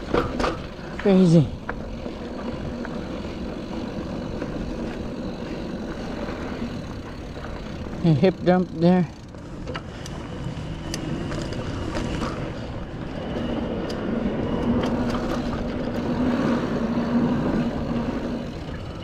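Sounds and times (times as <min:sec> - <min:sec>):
bike rattling and ticking: 0:00.0 - 0:19.0
knobby tyres rolling: 0:00.0 - 0:19.0
low hum: 0:00.0 - 0:19.0.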